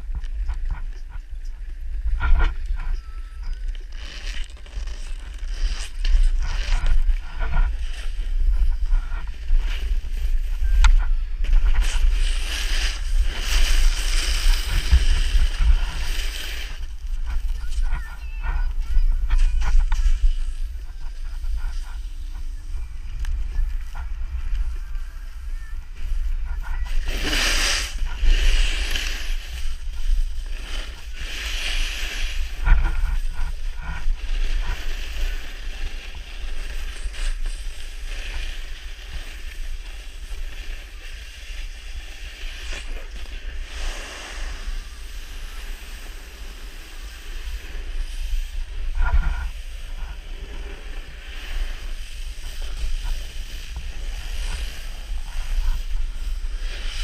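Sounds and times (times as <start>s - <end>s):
snowboard scraping on snow: 0.0s - 57.0s
wind rumbling on microphone: 0.0s - 57.0s.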